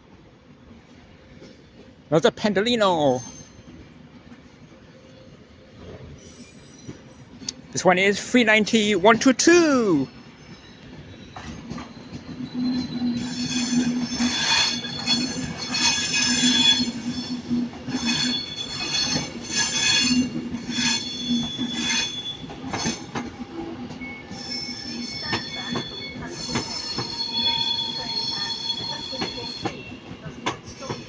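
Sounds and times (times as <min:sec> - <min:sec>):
steady low train hum: 0:00.0 - 0:31.0
train wheels squealing on rails: 0:02.9 - 0:08.2, 0:09.8 - 0:31.0.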